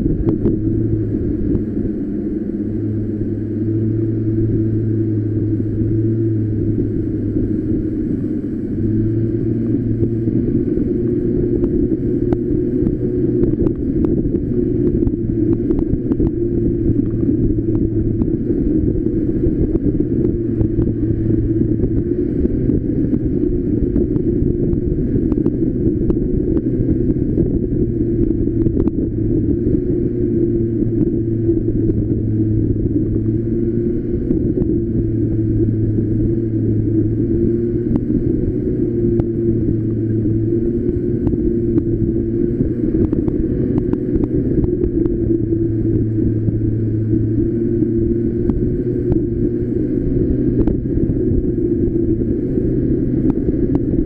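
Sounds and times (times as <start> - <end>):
low road rumble: 0.0 - 54.0.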